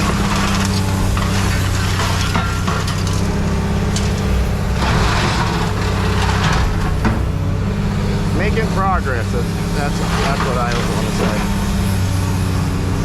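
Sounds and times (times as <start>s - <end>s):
debris scraping and crunching: 0.0s - 12.7s
machine engine running: 0.0s - 13.0s.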